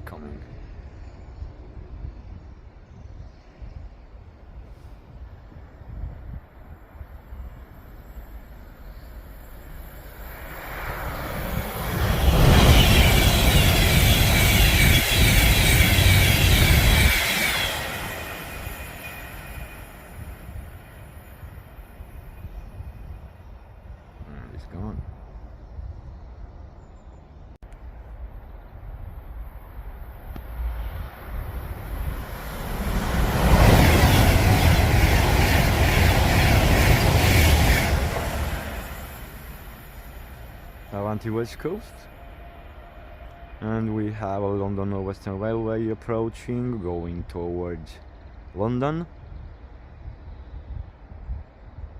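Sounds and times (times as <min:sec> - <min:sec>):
train passing at speed: 0:00.0 - 0:51.9.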